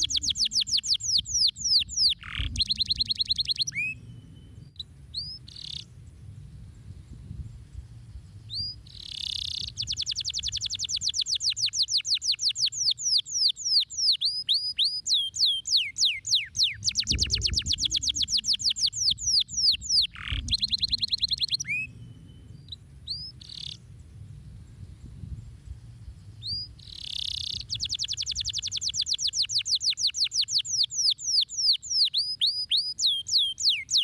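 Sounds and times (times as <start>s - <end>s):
canary singing trills: 0.0s - 5.9s, 8.4s - 23.9s, 25.9s - 34.0s.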